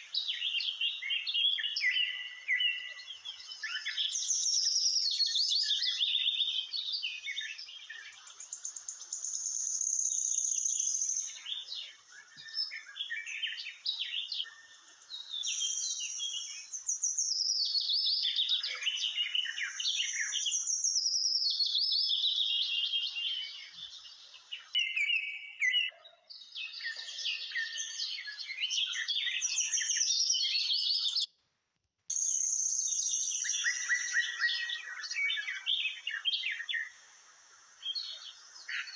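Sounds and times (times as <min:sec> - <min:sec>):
birds chirping and singing: 0:00.0 - 0:31.3, 0:32.1 - 0:38.9.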